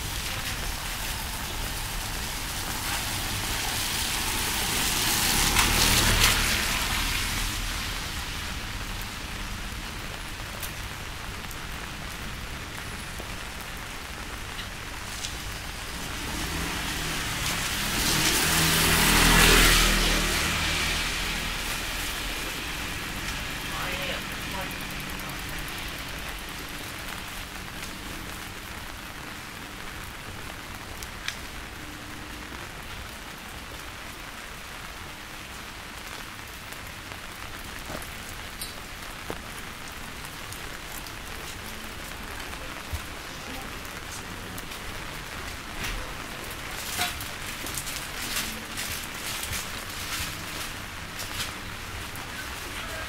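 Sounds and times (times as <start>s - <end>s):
raindrop hits: 0.0s - 53.0s
steady rain hiss: 0.0s - 53.0s.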